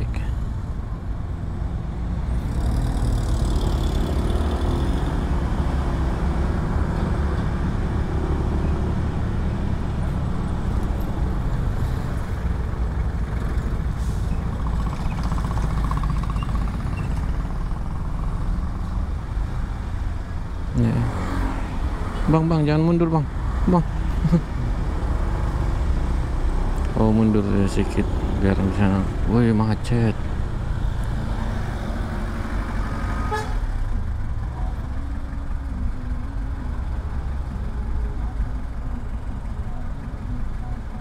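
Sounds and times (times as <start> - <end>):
bus engine and road noise: 0.0 - 41.0.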